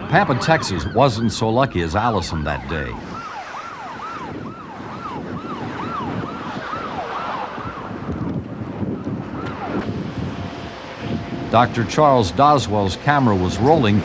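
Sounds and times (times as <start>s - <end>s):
siren yelping: 0.0s - 14.0s
wind noise: 0.0s - 14.0s.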